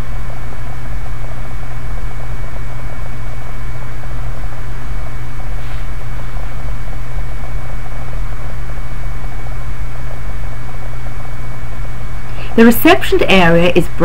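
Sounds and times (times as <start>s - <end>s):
steady hum and hiss: 0.0s - 14.0s
thin high whine: 0.0s - 14.0s.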